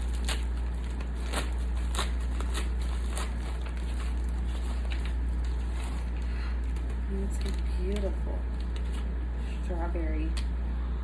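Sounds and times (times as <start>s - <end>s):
packaging crinkling: 0.0s - 9.1s
steady low hum: 0.0s - 11.0s.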